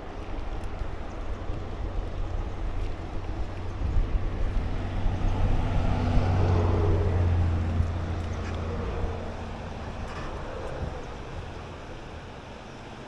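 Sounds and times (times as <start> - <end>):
wind rumbling on microphone: 0.0 - 13.0
motor vehicle engine: 0.4 - 12.1.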